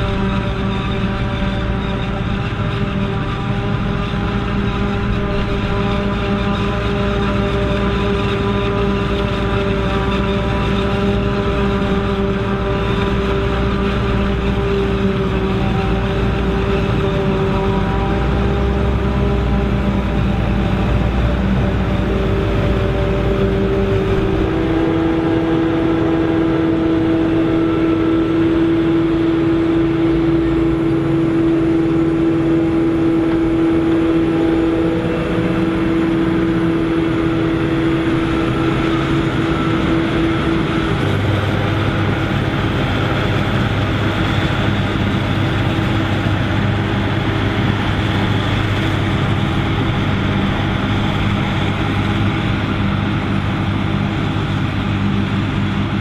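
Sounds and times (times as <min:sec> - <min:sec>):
forage harvester running: 0:00.0 - 0:56.0
high machine whine: 0:00.0 - 0:56.0
tractor hauling trailer: 0:00.0 - 0:56.0.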